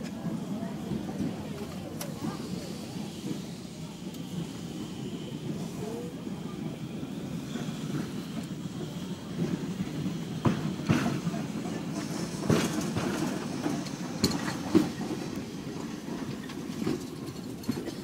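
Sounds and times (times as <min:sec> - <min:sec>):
tram rumbling on rails: 0:00.0 - 0:18.0
tram wheels clacking on track: 0:00.0 - 0:18.0.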